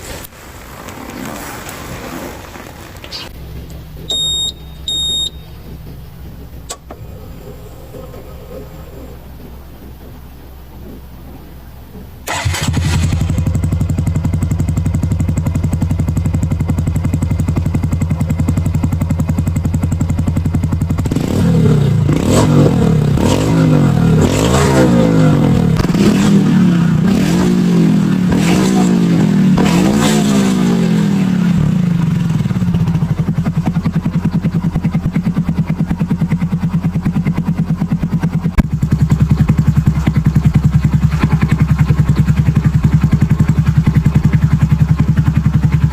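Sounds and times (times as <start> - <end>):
motorcycle engine idling and revving: 3.2 - 45.9.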